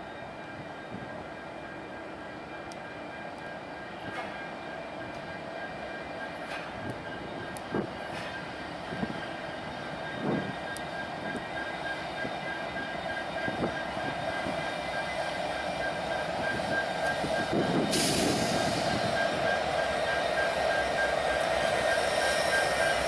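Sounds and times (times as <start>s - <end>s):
train cars rumbling past: 1.8s - 23.0s.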